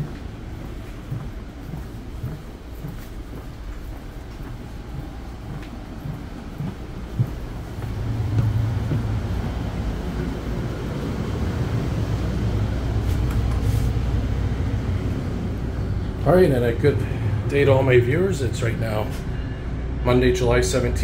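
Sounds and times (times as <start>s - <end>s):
low hum inside train coach: 0.0s - 21.0s.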